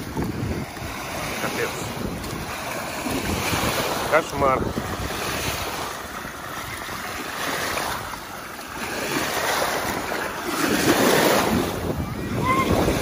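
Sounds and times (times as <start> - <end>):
small waves washing on shore: 0.0 - 13.0
wave breaking and splashing: 0.0 - 13.0
wind buffeting microphone: 0.0 - 13.0.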